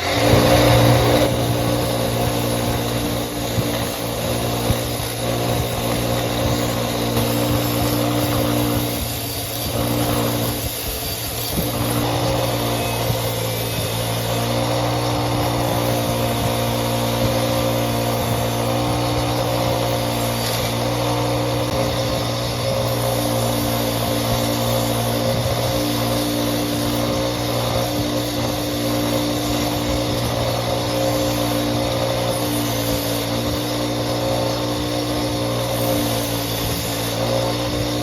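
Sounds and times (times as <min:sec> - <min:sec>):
power tool motor running: 0:00.0 - 0:38.0.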